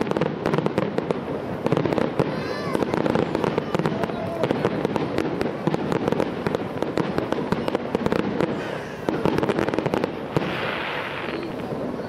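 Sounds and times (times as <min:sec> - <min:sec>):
firework hiss: 0:00.0 - 0:12.0
fireworks crackling: 0:00.0 - 0:12.0.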